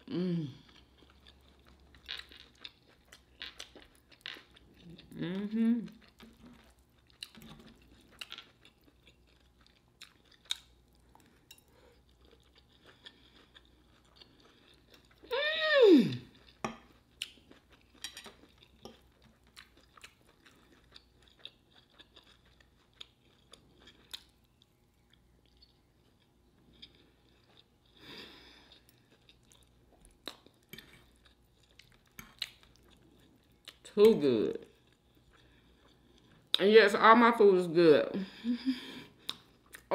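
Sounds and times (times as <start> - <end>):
close chewing with mouth clicks: 0.6 - 15.3, 16.3 - 33.9, 39.1 - 39.9.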